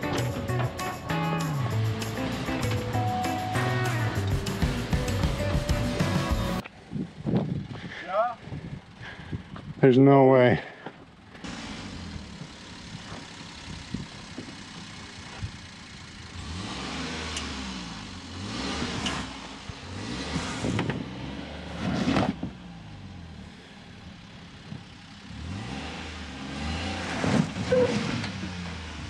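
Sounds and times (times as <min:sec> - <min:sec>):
small truck engine revving: 0:00.0 - 0:06.6, 0:11.3 - 0:29.0.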